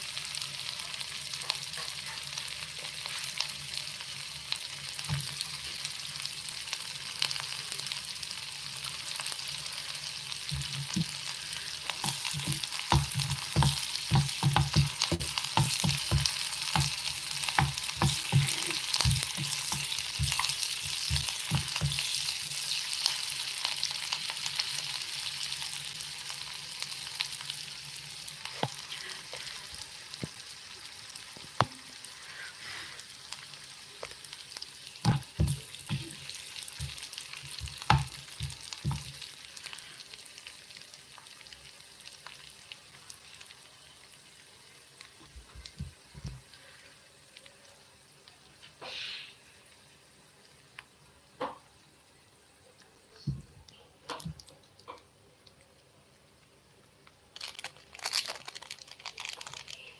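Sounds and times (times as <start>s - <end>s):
onions sizzling in oil: 0.0s - 53.1s.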